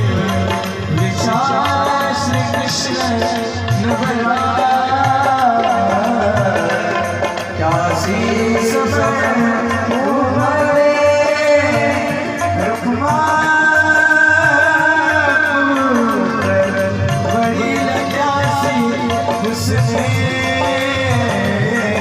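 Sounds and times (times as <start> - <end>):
hand drums playing: 0.0 - 22.0.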